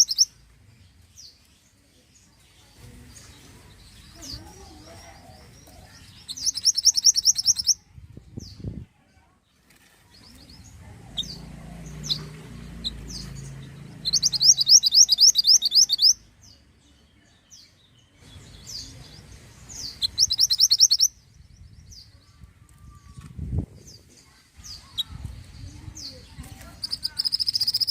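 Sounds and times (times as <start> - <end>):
bird chirping and trilling: 0.0 - 0.4, 3.1 - 8.8, 10.2 - 22.4, 23.0 - 27.9.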